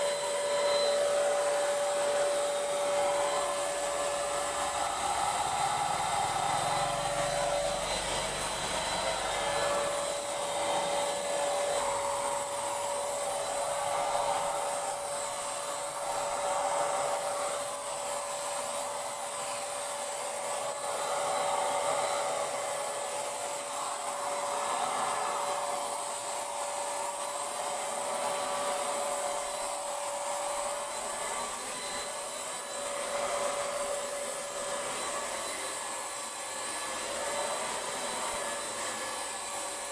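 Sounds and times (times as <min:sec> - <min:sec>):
electric paint sprayer running: 0:00.0 - 0:39.9.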